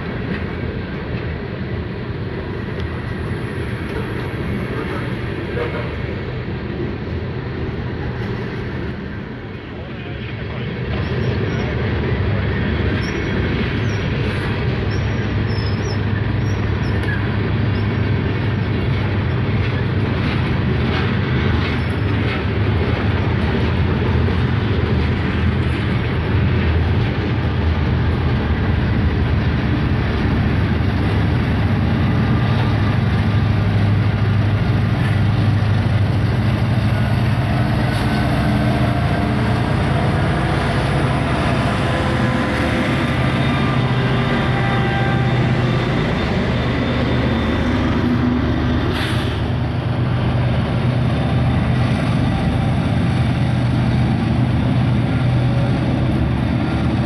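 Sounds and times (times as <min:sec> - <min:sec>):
locomotive engine hum: 0:00.0 - 0:57.0
train wheels rumbling on rails: 0:00.0 - 0:57.0.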